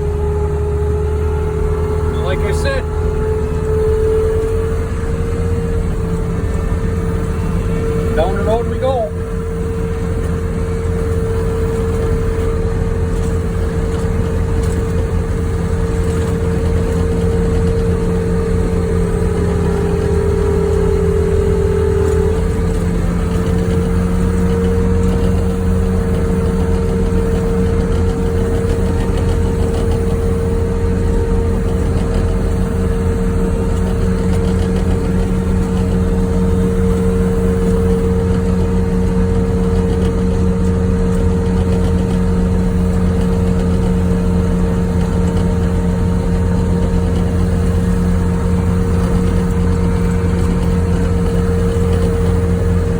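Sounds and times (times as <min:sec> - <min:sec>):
diesel engine running: 0:00.0 - 0:52.9
steady whine: 0:00.0 - 0:52.9.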